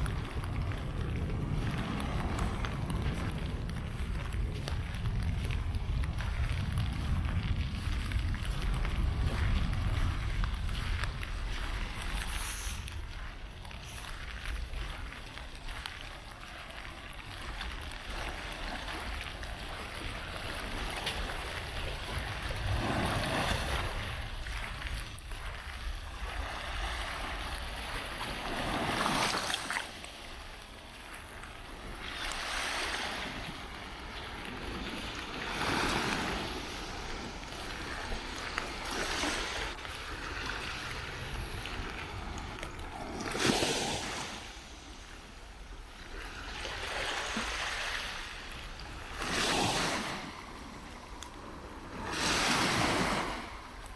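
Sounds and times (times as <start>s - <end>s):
waves washing onto beach: 0.0s - 53.9s
wind rumble on microphone: 0.0s - 53.9s.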